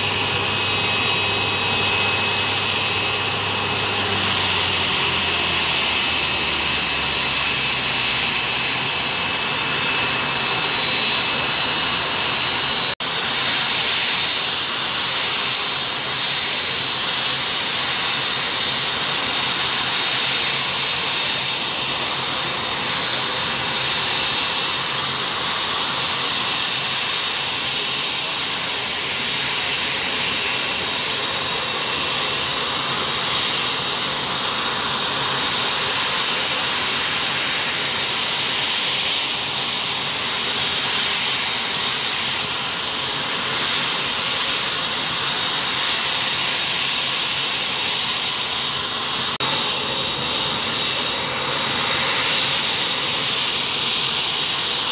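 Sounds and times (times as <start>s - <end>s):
jet engine whine: 0.0s - 54.9s.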